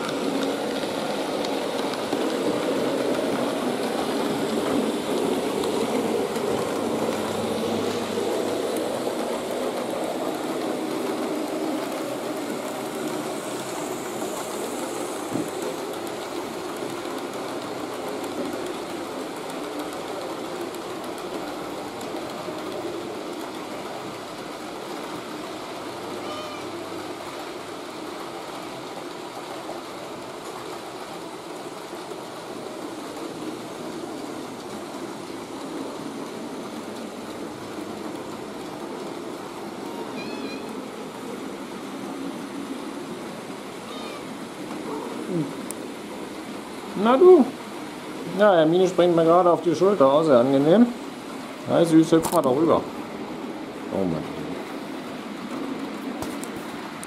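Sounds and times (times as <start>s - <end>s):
model train mechanical rumble: 0.0s - 57.0s.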